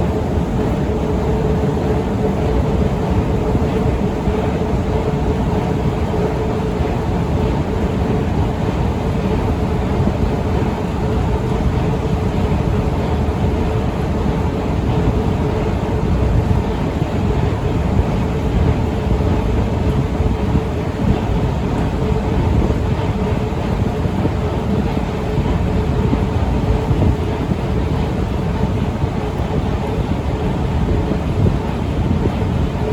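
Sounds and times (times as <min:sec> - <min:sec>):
escalator rumbling hum: 0:00.0 - 0:32.9.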